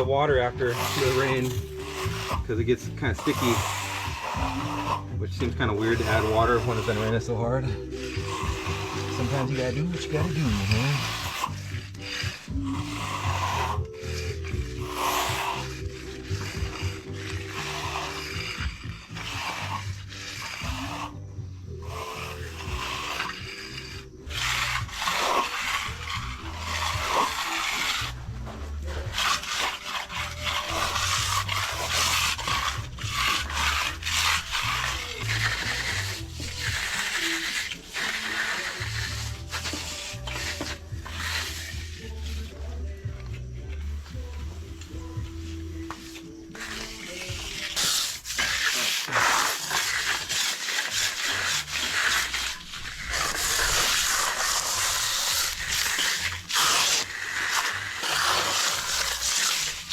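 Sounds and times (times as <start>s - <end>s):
tool scraping wet concrete: 0.0s - 59.9s.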